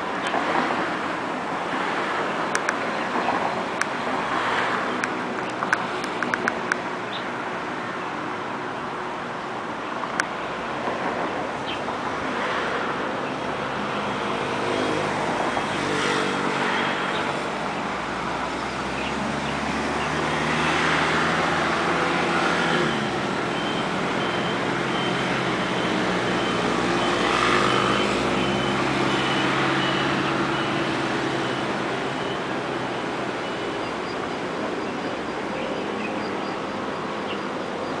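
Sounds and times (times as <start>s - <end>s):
heavy vehicle engine drone: 0.0s - 38.0s
passing vehicles rushing: 0.0s - 38.0s.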